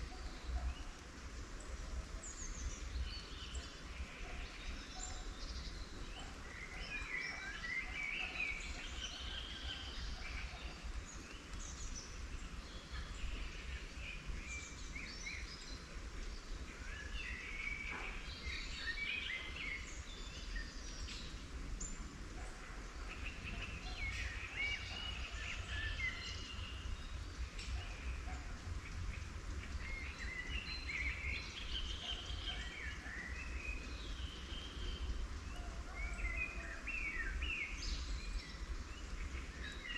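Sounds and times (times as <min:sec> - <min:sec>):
songbirds twittering: 0:00.0 - 0:39.9.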